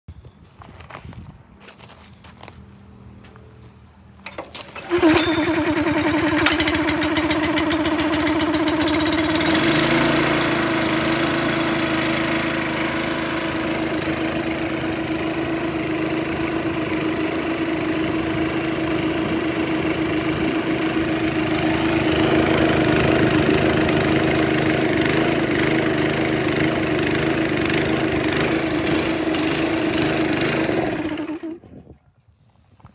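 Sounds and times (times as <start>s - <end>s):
air compressor engine running: 4.2s - 32.0s.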